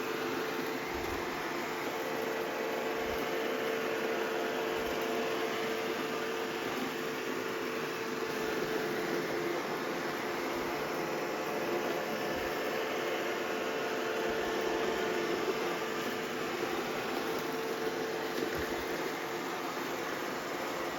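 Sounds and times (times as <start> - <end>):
robot vacuum whirring: 0.0 - 20.9.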